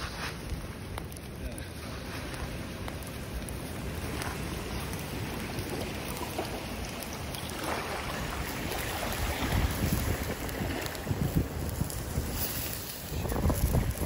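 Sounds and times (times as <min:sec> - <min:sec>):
wind blowing over microphone: 0:00.0 - 0:14.0
water lapping on shore: 0:01.6 - 0:14.0.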